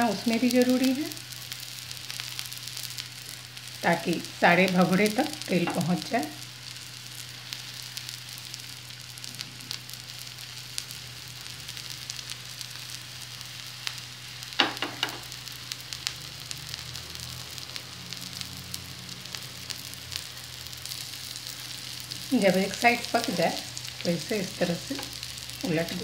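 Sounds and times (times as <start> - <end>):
fritters sizzling in oil: 0.0 - 26.0.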